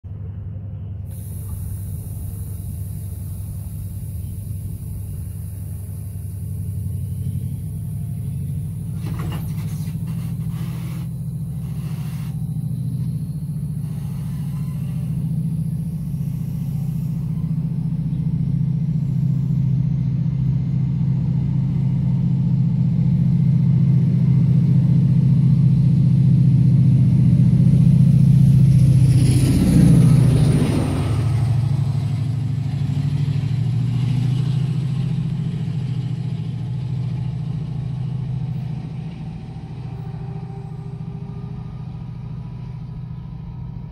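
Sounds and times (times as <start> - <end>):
diesel locomotive engine drone: 0.0 - 43.9.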